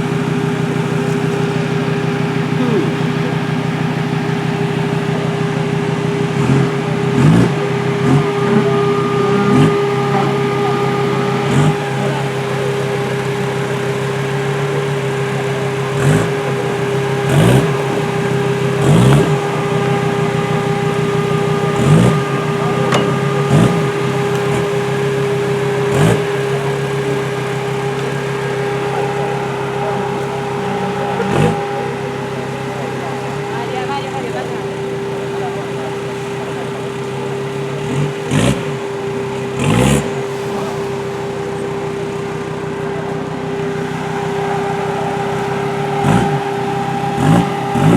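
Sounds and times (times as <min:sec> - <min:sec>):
engine idling with throttle blips: 0:00.0 - 0:47.9
steady whine: 0:00.0 - 0:47.9.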